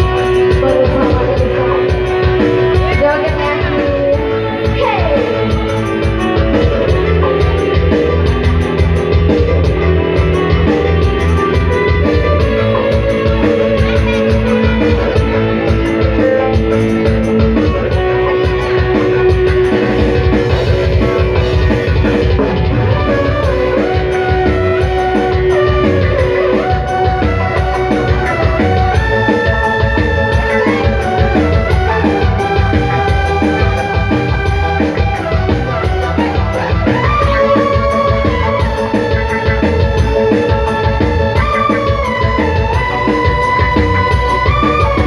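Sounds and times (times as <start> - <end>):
drums and bass beat: 0.0 - 45.0
keyboard and guitar melody: 0.0 - 45.0.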